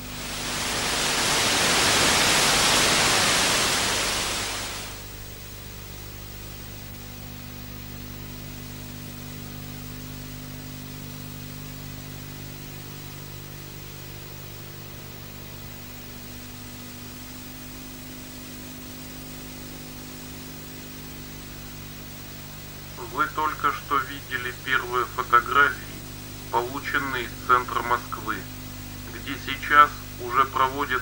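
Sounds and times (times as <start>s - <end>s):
loud static hiss: 0.0s - 31.0s
low electrical hum: 0.0s - 31.0s.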